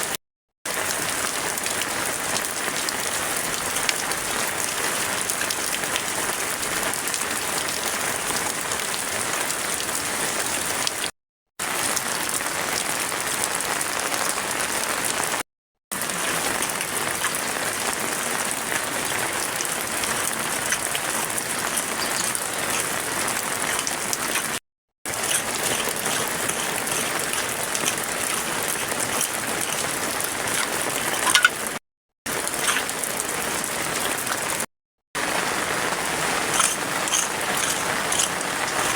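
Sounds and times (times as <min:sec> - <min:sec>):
heavy rain falling: 0:00.7 - 0:11.0, 0:11.6 - 0:15.4, 0:16.0 - 0:34.6, 0:35.2 - 0:38.9.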